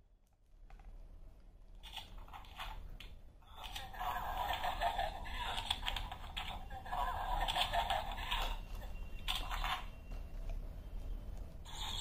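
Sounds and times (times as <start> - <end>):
tinny sound from small speaker: 1.8 - 12.0.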